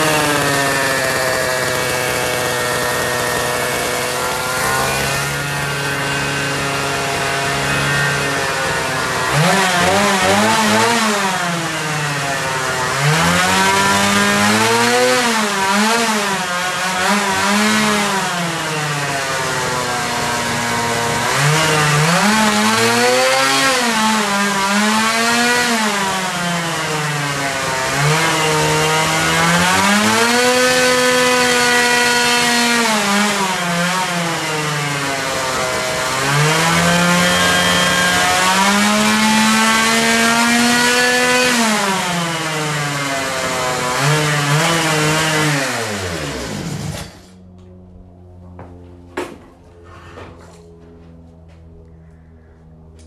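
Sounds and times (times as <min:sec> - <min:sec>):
engine revving: 0:00.0 - 0:48.5.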